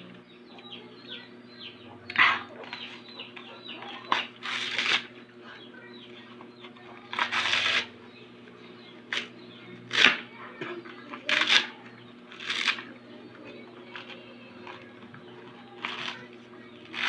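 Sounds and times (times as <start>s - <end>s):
birds chirping: 0.0s - 17.0s
faint steady hum: 0.0s - 17.0s.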